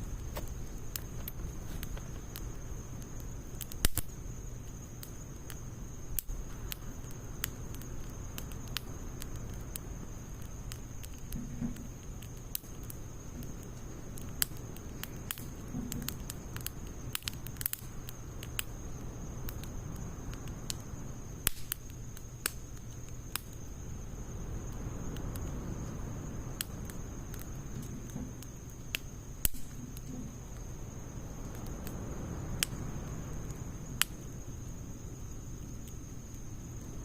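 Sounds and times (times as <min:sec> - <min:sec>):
low rumble of burning: 0:00.0 - 0:37.0
wood fire crackling and popping: 0:00.0 - 0:37.0.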